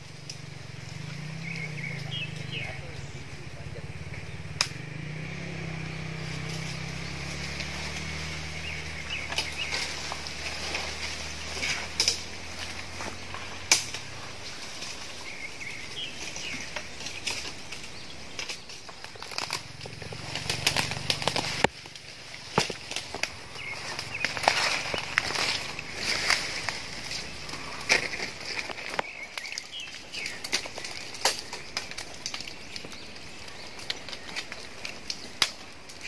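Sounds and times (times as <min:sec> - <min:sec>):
low hum: 0:00.0 - 0:29.3
leaves and branches rustling: 0:00.0 - 0:36.0
branches snapping and knocking: 0:03.6 - 0:36.0.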